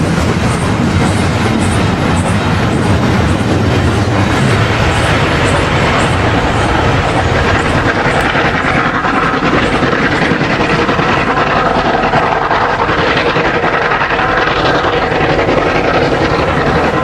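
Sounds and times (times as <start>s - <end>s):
model steam locomotive chuffing: 0.0s - 17.0s
wheels rolling on track: 0.0s - 17.0s.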